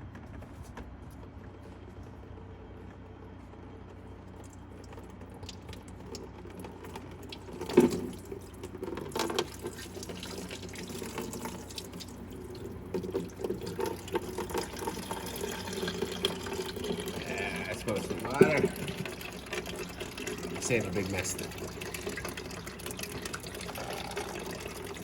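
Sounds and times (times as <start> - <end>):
water draining and splashing: 4.5 - 25.0.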